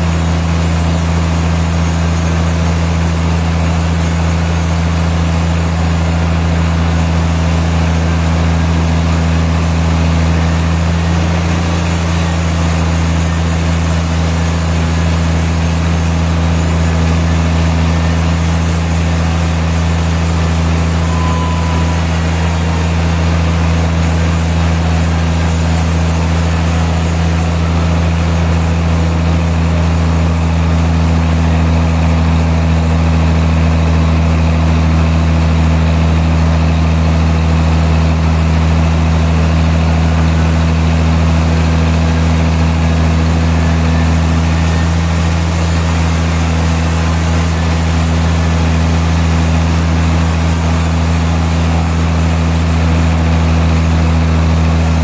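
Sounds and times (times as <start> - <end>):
sawmill machinery engine hum: 0.0 - 55.0.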